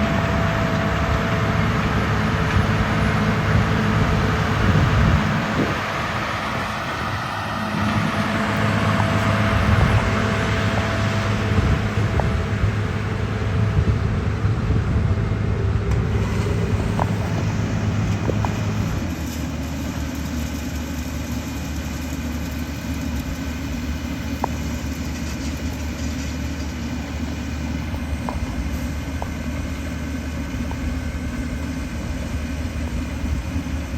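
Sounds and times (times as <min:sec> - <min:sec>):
combine engine and machinery drone: 0:00.0 - 0:33.9.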